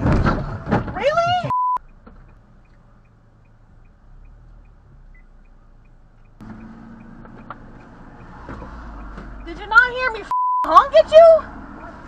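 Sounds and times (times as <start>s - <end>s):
car engine and road rumble: 0.0s - 12.0s
faint regular ticking: 1.8s - 12.0s.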